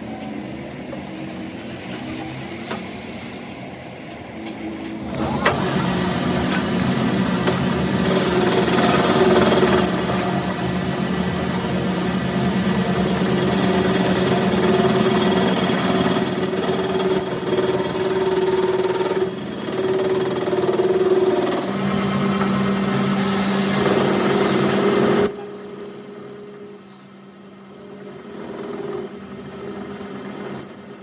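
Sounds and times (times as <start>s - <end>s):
engine running with whine: 4.3s - 31.0s.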